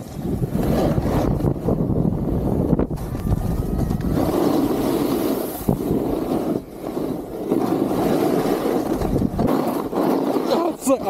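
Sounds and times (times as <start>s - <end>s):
snowboard scraping over snow: 0.0s - 11.0s
wind rushing over microphone: 0.0s - 11.0s.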